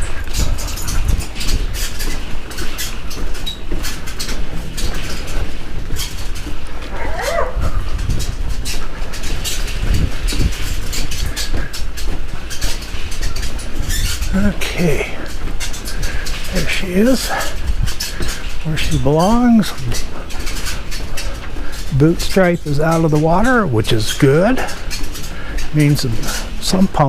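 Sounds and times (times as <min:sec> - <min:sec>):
cart wheels clattering over boards: 0:00.0 - 0:27.0.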